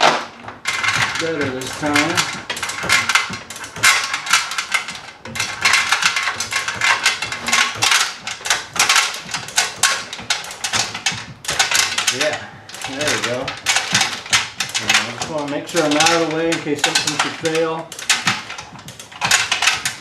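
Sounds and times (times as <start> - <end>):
hoist chain rattling and clicking: 0.0 - 20.0.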